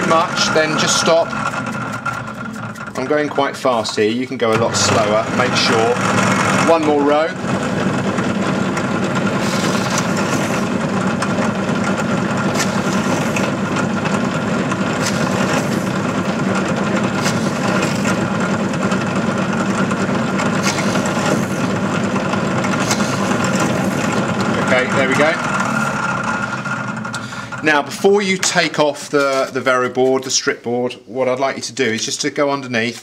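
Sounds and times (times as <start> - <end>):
pillar drill running: 0.0 - 29.6.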